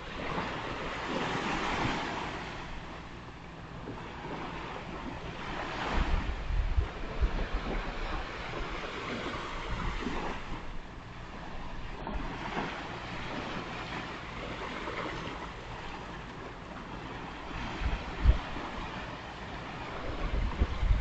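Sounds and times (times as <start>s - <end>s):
surf washing on beach: 0.0s - 21.0s
wind rumbling on microphone: 0.0s - 21.0s.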